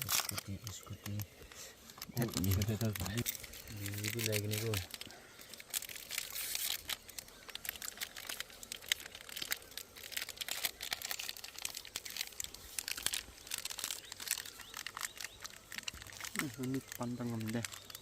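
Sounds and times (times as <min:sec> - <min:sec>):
dense crackling and crinkling: 0:00.0 - 0:18.0.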